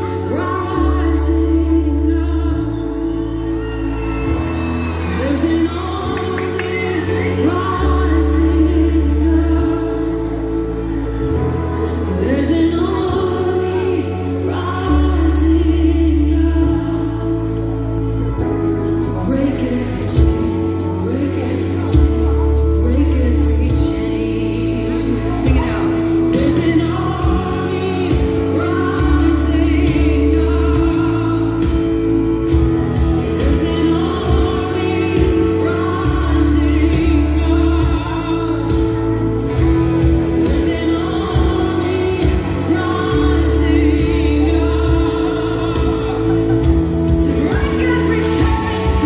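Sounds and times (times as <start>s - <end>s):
held bass notes: 0.0s - 49.0s
person singing: 0.0s - 49.0s.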